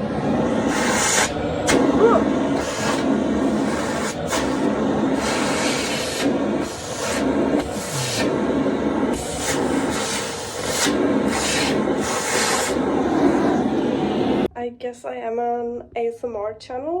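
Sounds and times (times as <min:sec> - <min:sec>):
vacuum cleaner running: 0:00.0 - 0:14.5.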